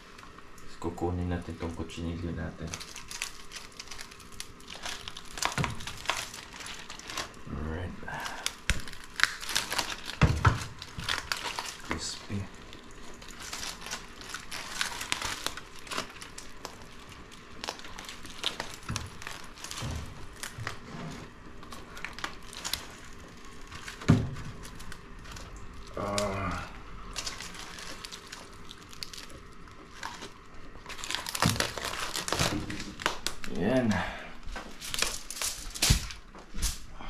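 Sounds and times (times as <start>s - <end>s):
aluminium foil crinkling: 0.0s - 36.9s.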